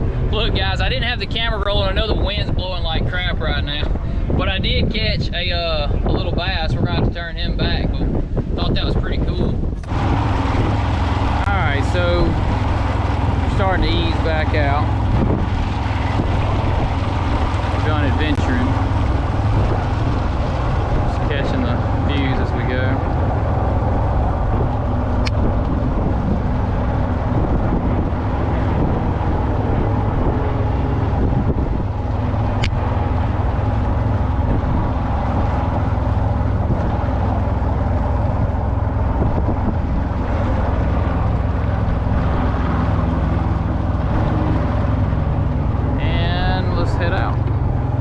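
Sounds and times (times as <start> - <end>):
boat motor running: 0.0 - 48.0
wind buffeting microphone: 0.0 - 48.0.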